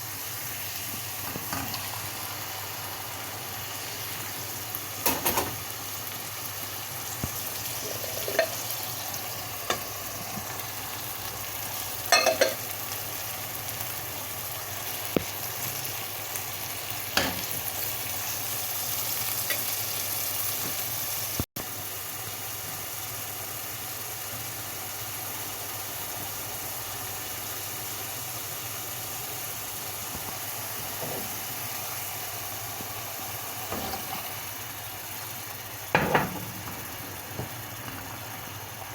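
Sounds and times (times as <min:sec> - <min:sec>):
food sizzling in oil: 0:00.0 - 0:38.9.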